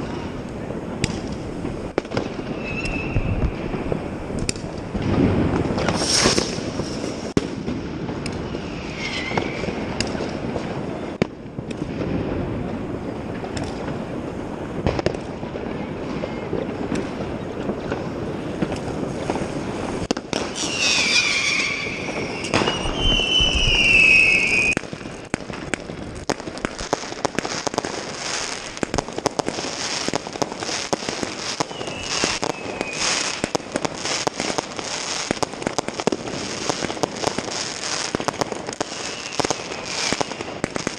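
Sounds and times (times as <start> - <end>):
whistling fireworks screeching: 0.0 - 11.3, 15.5 - 40.9
firework bangs and crackling: 0.0 - 40.9.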